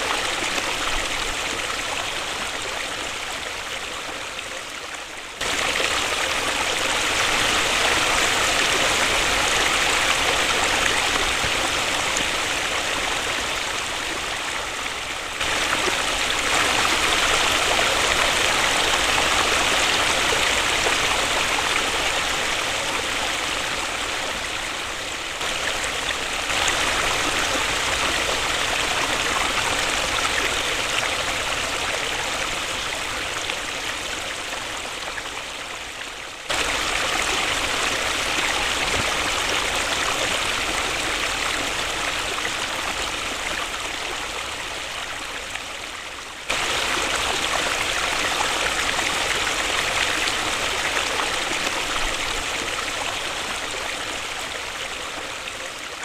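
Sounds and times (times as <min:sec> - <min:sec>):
waterfall rushing: 0:05.4 - 0:35.2, 0:36.5 - 0:45.0, 0:46.5 - 0:54.8.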